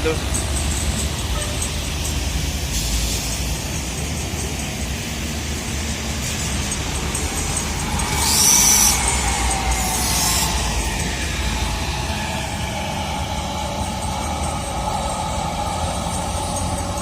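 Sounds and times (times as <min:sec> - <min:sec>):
loud high-pitched hiss: 0:00.0 - 0:17.0
road traffic passing: 0:00.0 - 0:17.0.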